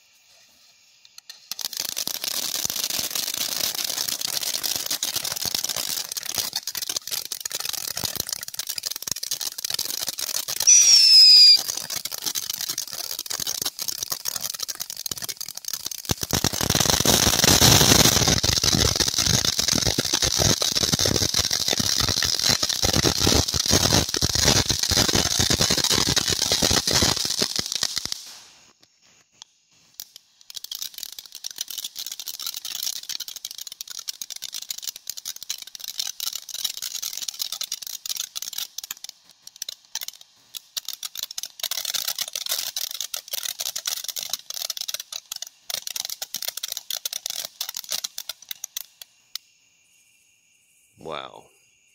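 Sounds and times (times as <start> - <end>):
firework fountain crackling and hissing: 0.0 - 51.9.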